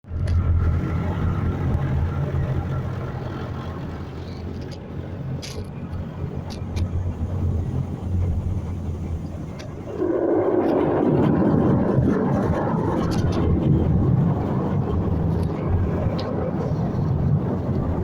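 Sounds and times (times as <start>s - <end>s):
water jets spraying car: 0.3s - 18.0s.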